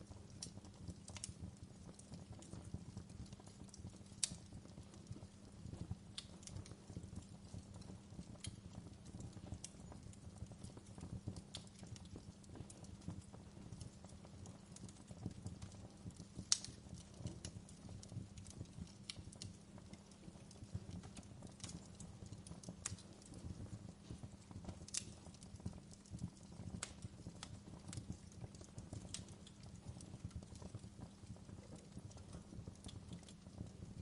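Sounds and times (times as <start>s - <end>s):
low fire rumble: 0.0s - 34.0s
wood fire crackling and popping: 0.0s - 34.0s.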